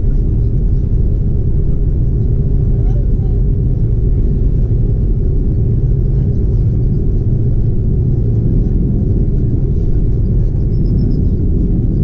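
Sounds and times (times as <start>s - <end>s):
jet engine rumble inside cabin: 0.0s - 12.0s.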